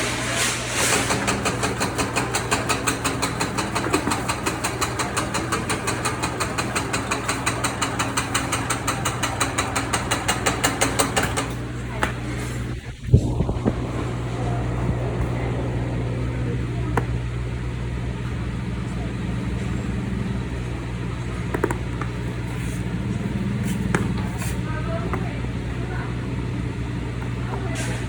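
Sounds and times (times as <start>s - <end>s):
motor hum: 1.8s - 27.8s.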